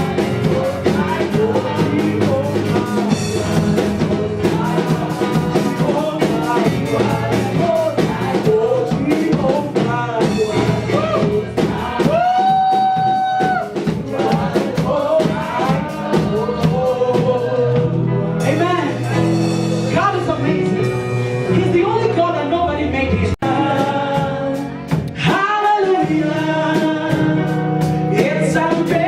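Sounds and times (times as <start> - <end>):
band with drums: 0.0 - 22.3, 23.2 - 29.0
worship song singing: 0.0 - 29.0.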